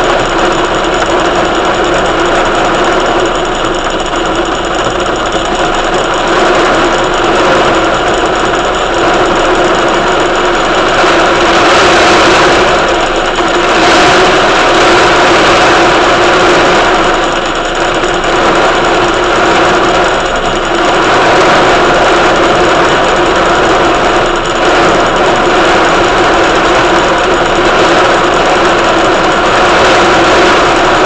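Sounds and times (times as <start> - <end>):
small engine droning: 0.0 - 31.0.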